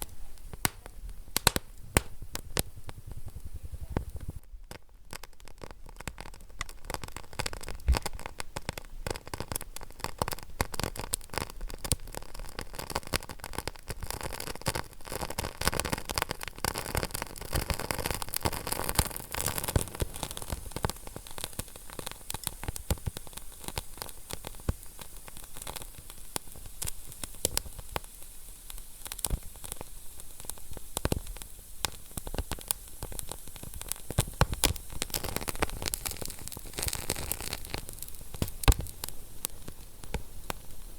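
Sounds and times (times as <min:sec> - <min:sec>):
soft fire hiss: 0:00.0 - 0:40.9
wood fire crackling and popping: 0:00.0 - 0:40.9.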